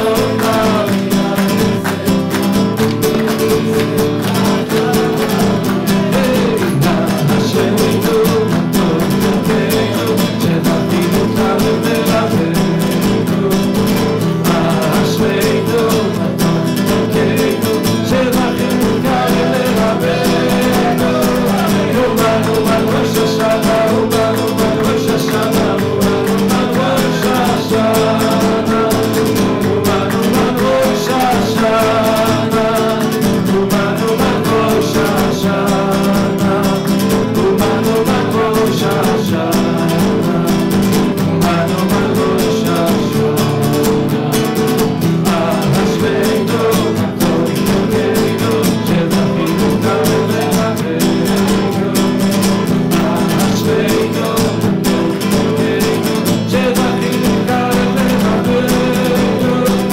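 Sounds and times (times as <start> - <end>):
man singing into microphone: 0.0 - 59.9
nylon-string guitar strumming: 0.0 - 59.9.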